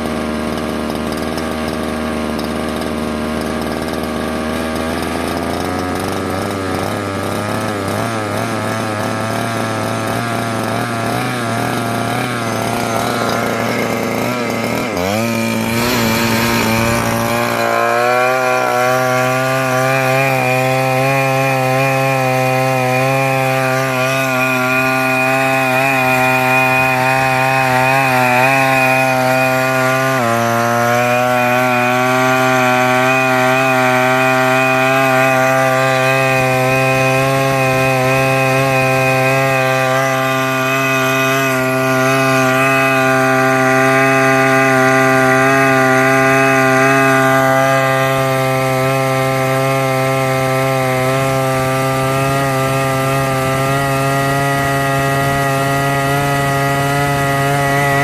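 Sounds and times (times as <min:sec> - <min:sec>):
small two-stroke engine running: 0:00.0 - 0:58.0.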